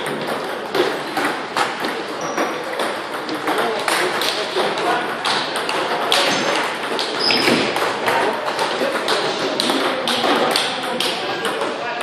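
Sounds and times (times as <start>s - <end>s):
table tennis ball clicks: 0.0s - 11.8s.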